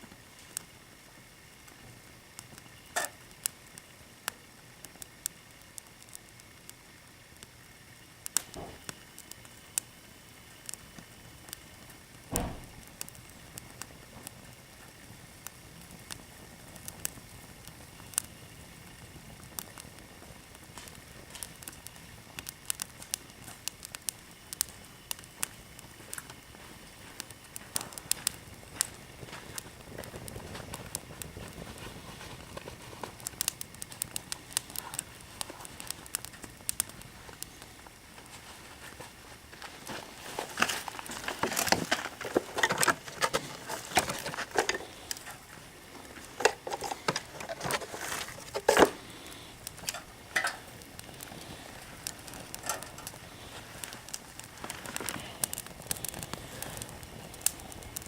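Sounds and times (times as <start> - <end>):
small fire crackling: 0.0 - 58.0.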